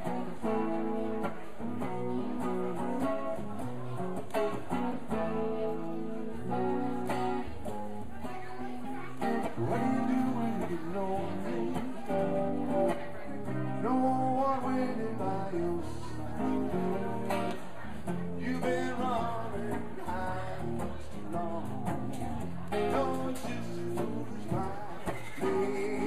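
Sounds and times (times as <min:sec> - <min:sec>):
electric guitar strumming chords: 0:00.0 - 0:26.0.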